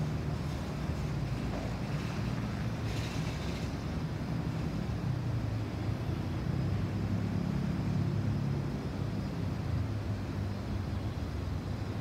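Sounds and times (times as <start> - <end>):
low rumble of distant vehicles: 0.0 - 12.0.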